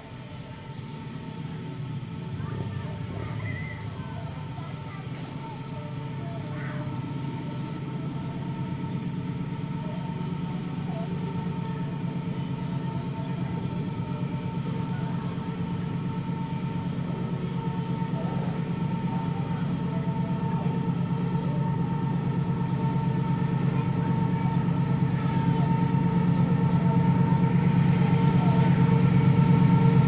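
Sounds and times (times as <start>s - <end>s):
constant high tone: 0.0s - 30.0s
mechanical drone: 0.0s - 30.0s.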